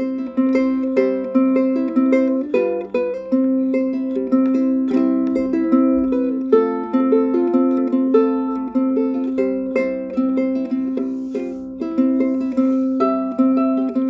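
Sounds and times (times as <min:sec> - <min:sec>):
fingerpicked ukulele melody: 0:00.0 - 0:14.0.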